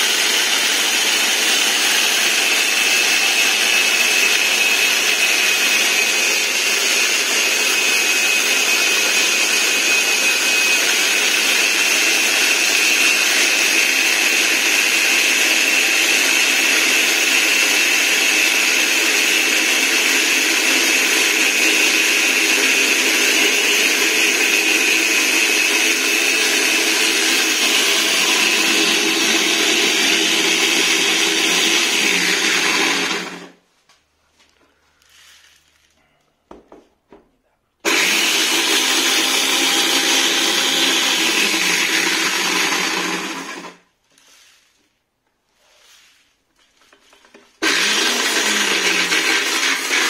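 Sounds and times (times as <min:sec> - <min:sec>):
angle grinder whining: 0:00.0 - 0:33.6, 0:37.8 - 0:43.9, 0:47.3 - 0:50.0.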